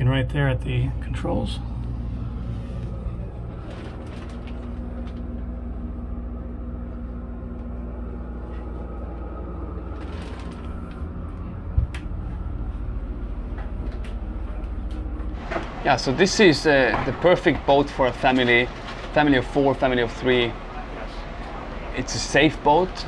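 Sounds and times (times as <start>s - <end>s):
low mechanical hum and rumble: 0.0s - 23.0s.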